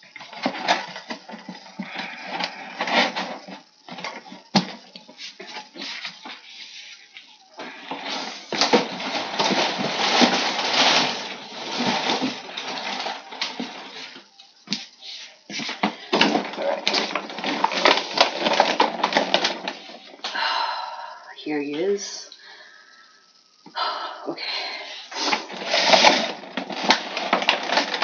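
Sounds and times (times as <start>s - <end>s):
plastic packaging crinkling: 0.0s - 15.0s, 15.6s - 20.4s, 25.0s - 28.0s.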